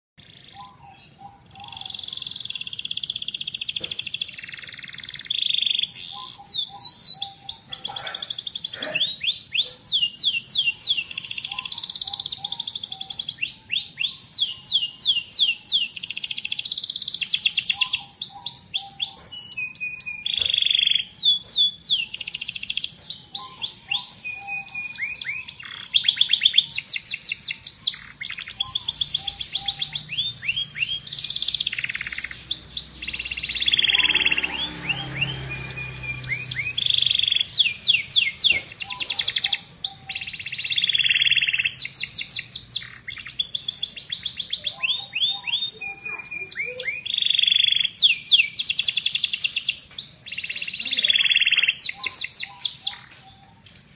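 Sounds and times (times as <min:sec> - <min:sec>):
canary singing trills: 0:00.2 - 0:53.7.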